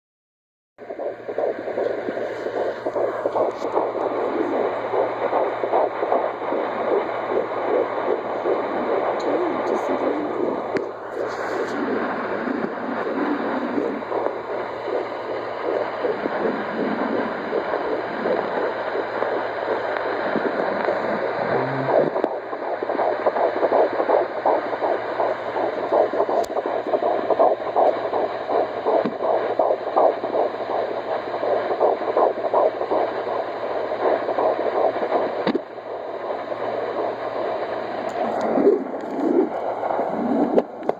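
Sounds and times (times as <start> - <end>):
fast whooshing heartbeat: 0.8 - 40.9.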